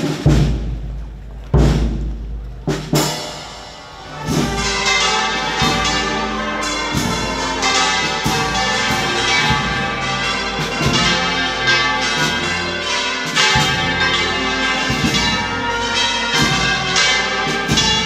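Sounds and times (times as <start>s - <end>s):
church bells ringing: 2.9s - 18.0s.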